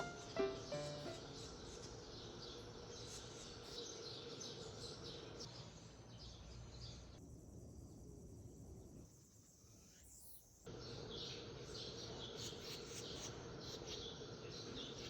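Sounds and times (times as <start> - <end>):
small birds chirping: 0.0 - 7.2, 9.9 - 15.0.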